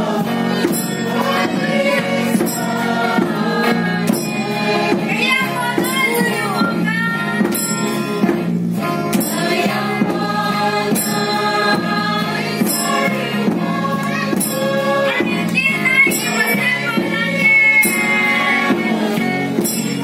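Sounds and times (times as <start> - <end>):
women's choir singing: 0.0 - 8.5, 9.1 - 20.0
instrumental backing with beat: 0.0 - 20.0.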